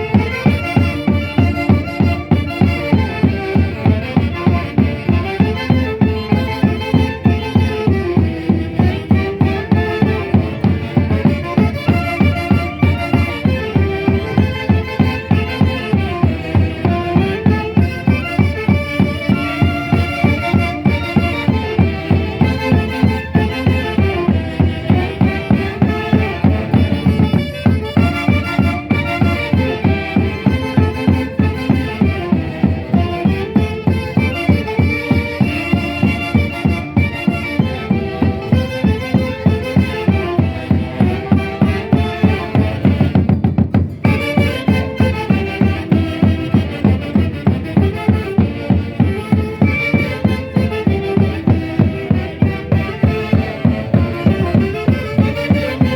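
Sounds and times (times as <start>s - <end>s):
band playing dance music: 0.0s - 55.9s.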